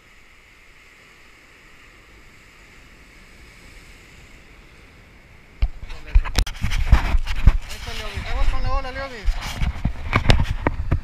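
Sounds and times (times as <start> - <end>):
waves washing against breakwater: 0.0 - 11.0.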